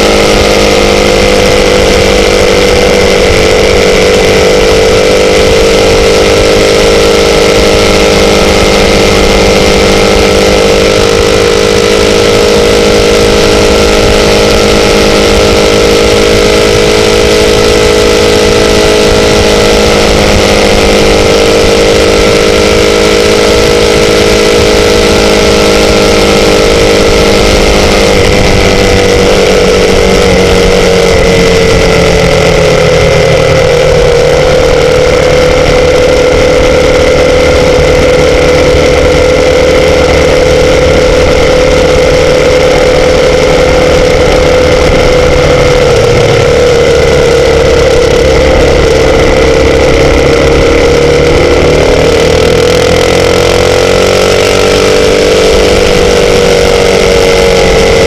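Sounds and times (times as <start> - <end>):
constant rushing noise: 0.0 - 58.0
motorcycle engine running: 0.0 - 58.0.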